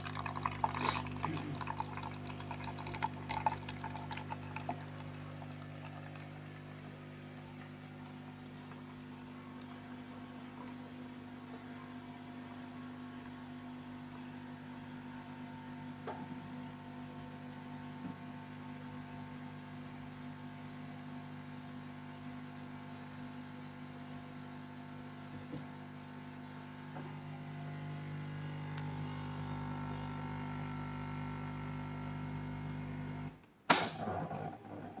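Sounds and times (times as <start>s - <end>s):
coffee machine motor hum: 0.0s - 35.0s.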